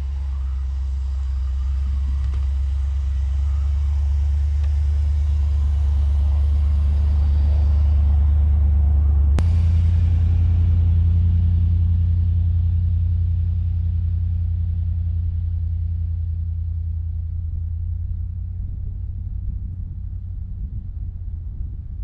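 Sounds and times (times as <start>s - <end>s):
pickup truck engine running: 0.0s - 22.0s.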